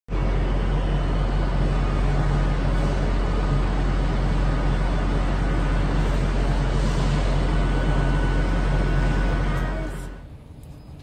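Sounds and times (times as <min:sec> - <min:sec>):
station noise: 0:00.1 - 0:11.0
train engine hum: 0:00.1 - 0:11.0.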